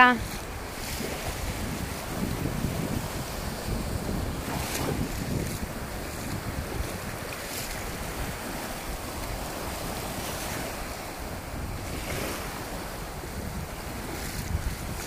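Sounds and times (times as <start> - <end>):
waves washing on shore: 0.0 - 15.0
wind buffeting microphone: 0.0 - 15.0.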